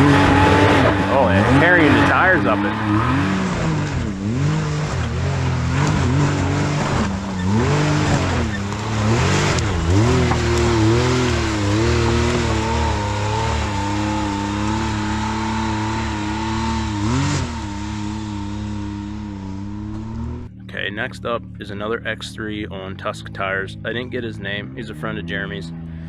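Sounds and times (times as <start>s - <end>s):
utv engine revving: 0.0s - 26.0s.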